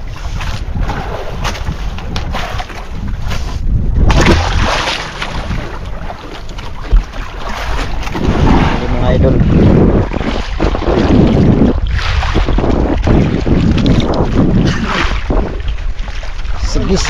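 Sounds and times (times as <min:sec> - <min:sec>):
water splashing against boat hull: 0:00.0 - 0:17.0
wind buffeting microphone: 0:00.0 - 0:17.0.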